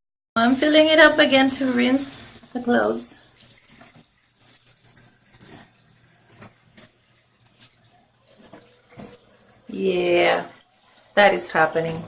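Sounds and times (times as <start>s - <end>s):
water running into washing machine tub: 0.4s - 12.0s
small water splashes: 1.2s - 12.0s.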